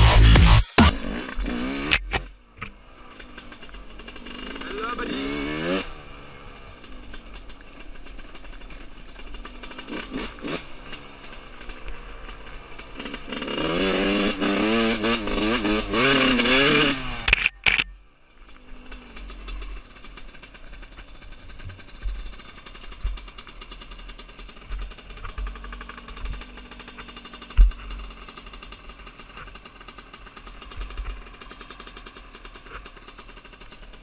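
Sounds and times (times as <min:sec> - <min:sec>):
motocross bike engine revving: 0:00.0 - 0:34.0.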